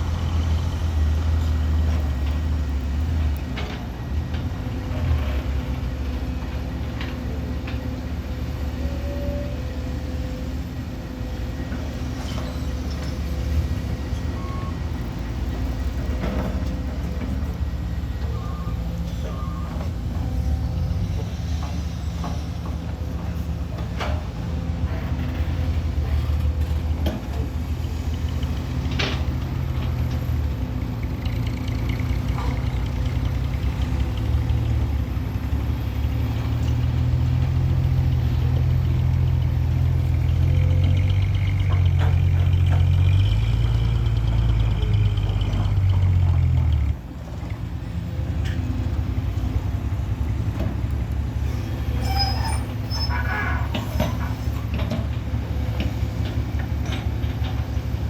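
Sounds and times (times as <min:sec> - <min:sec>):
truck engine running: 0:09.8 - 0:58.0.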